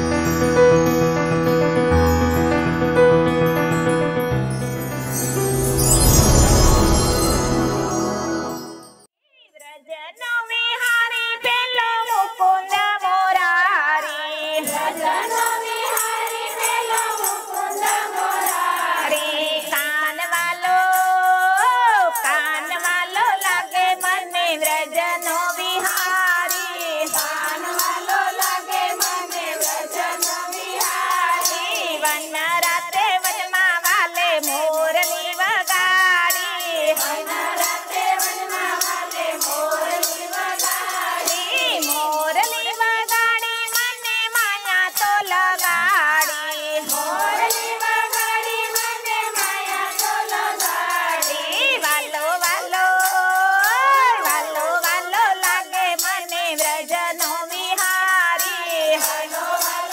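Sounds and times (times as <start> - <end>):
jingling hand percussion: 0.0 - 9.1, 10.1 - 59.9
women singing together: 10.1 - 59.9.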